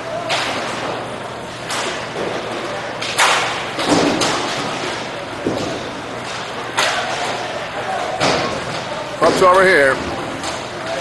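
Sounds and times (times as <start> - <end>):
hockey sticks and puck clacking: 0.2 - 1.0, 1.6 - 11.0.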